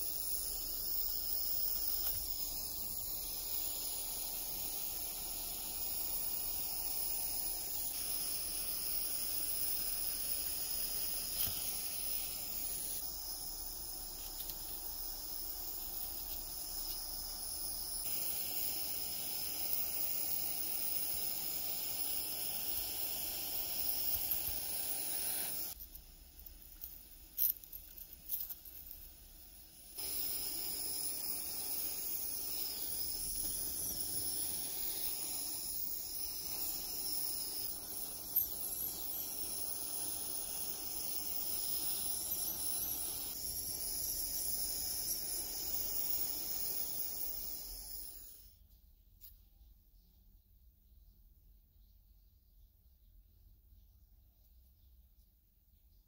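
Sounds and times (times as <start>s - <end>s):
insects shrilling: 0.0s - 48.6s.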